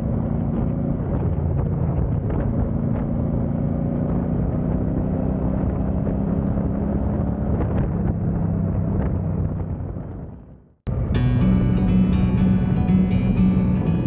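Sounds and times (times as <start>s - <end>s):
car engine drone: 0.0s - 14.0s
road and tyre noise: 0.0s - 14.0s.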